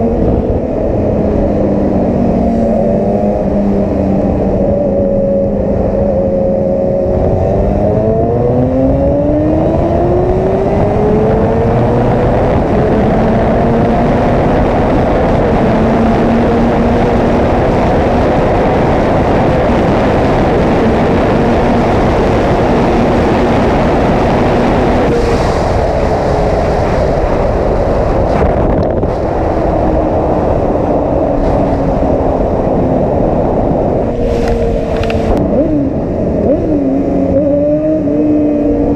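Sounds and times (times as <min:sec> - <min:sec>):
heavy wind rush: 0:00.0 - 0:38.9
motorcycle engine at speed: 0:00.0 - 0:38.9.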